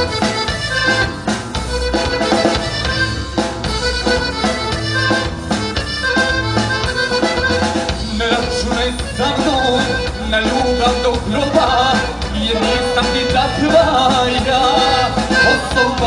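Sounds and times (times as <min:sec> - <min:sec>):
accordion folk music: 0:00.0 - 0:16.0
steady bass beat: 0:00.0 - 0:16.0.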